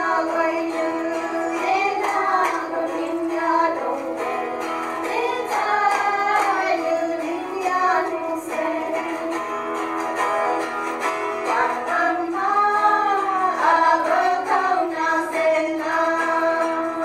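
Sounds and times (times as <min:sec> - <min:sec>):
voices singing: 0:00.0 - 0:10.2, 0:11.1 - 0:17.0
guitar accompaniment: 0:00.0 - 0:17.0.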